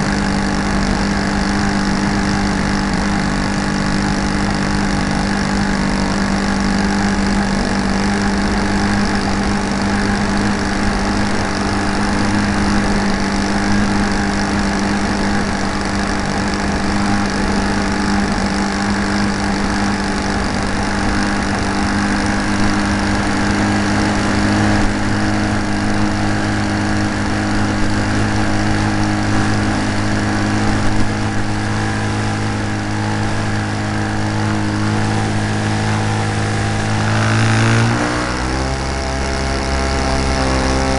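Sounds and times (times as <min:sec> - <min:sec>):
model airplane engine running: 0:00.0 - 0:40.9.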